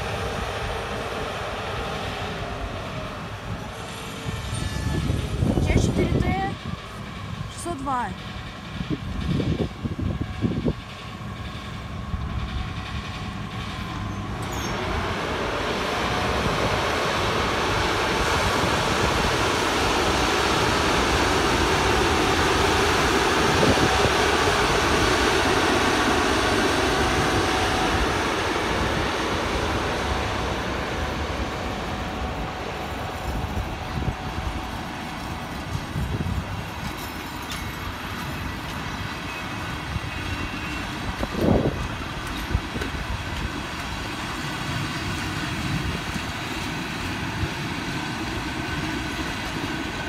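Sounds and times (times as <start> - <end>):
electric locomotive hum: 0.0 - 50.0
wheels rolling on rails: 2.5 - 50.0.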